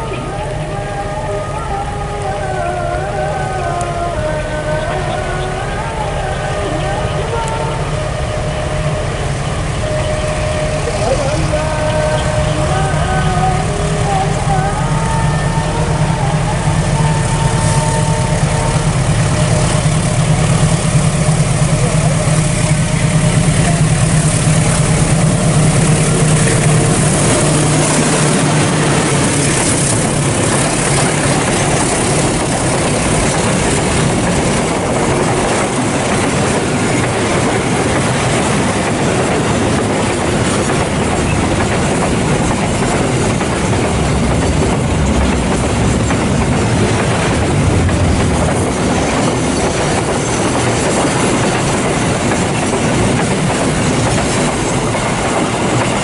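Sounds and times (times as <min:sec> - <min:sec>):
diesel engine hum: 0:00.0 - 0:56.0
train wheels rumbling and clattering: 0:00.0 - 0:56.0.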